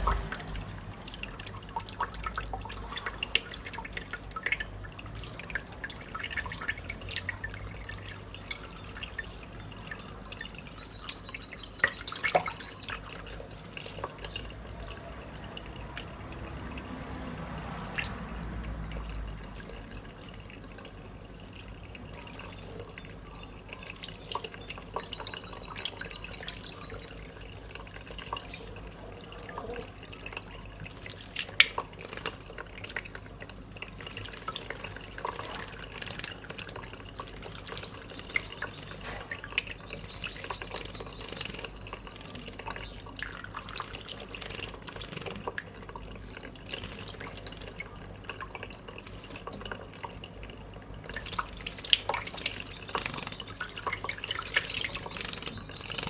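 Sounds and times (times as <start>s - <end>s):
tap water running: 0.0s - 56.0s
water splashing: 0.0s - 56.0s.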